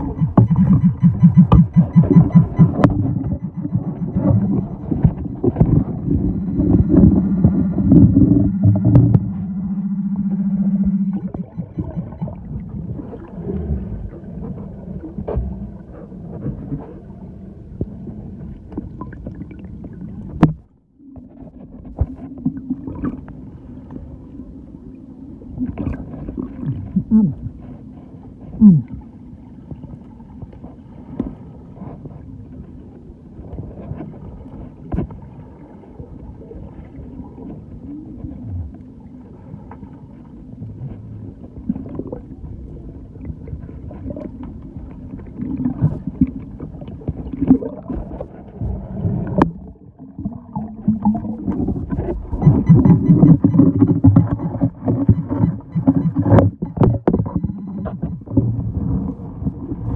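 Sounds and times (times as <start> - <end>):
muffled gurgling water: 0.0 - 59.9.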